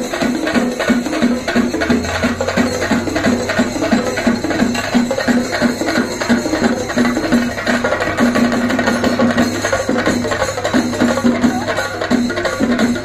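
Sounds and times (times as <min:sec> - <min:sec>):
drums beating fast rhythm: 0:00.0 - 0:13.0.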